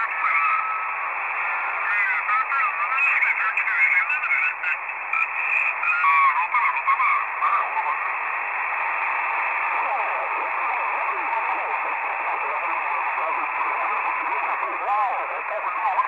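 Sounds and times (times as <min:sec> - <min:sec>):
garbled radio voice: 0:00.0 - 0:00.9, 0:01.6 - 0:08.1, 0:09.7 - 0:16.0
radio static hiss: 0:00.0 - 0:16.0.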